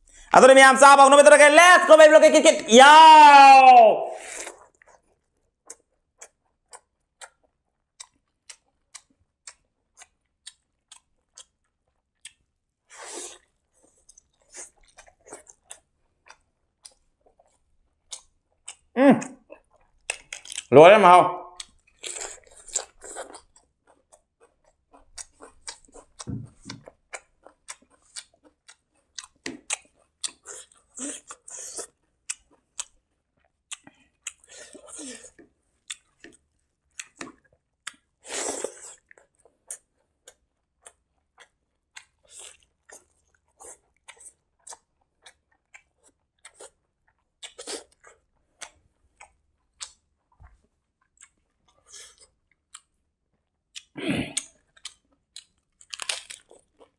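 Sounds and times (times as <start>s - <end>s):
close chewing with wet mouth clicks: 4.4s - 18.9s, 19.5s - 20.7s, 21.6s - 56.9s.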